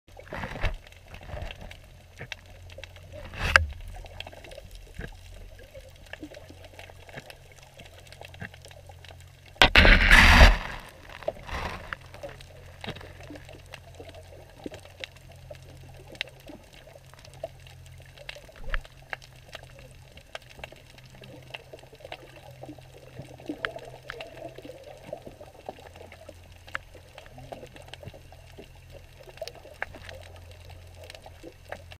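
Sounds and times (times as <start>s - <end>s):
low underwater hum: 0.1s - 32.0s
sharp clicks and crackles: 0.1s - 32.0s.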